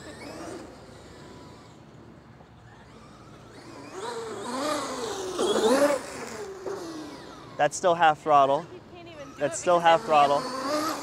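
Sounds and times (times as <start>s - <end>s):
rc truck motor whining: 0.0s - 11.0s.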